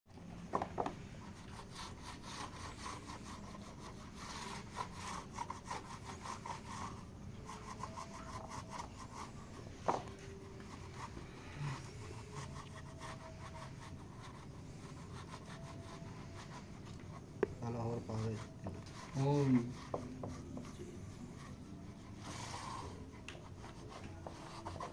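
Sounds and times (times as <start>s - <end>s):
rubbing strokes on plastic: 0.8s - 24.9s.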